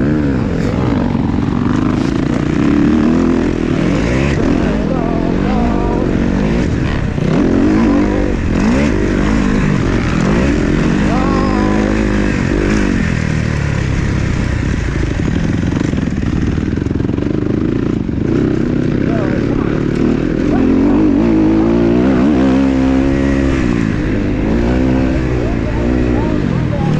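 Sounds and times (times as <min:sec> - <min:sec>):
dirt bike engines revving: 0:00.0 - 0:26.9.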